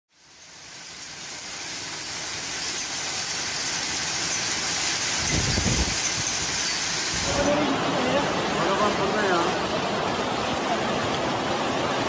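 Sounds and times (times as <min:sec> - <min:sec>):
torrential rain pouring: 0:00.2 - 0:12.0.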